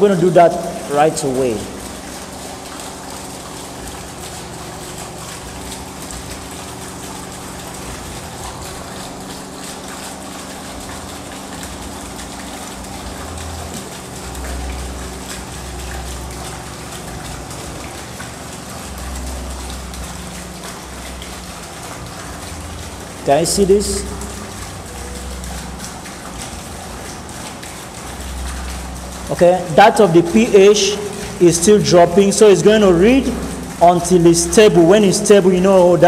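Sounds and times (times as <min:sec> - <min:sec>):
water rushing: 0:00.0 - 0:36.0.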